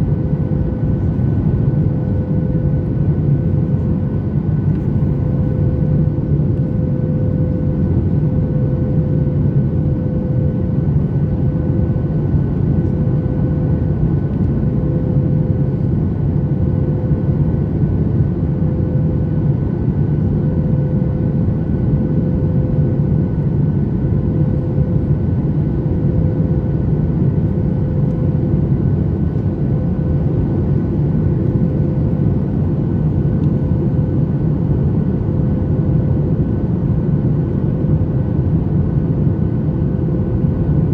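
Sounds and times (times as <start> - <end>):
jet engine noise: 0.0 - 40.9
steady hum tone: 0.0 - 40.9.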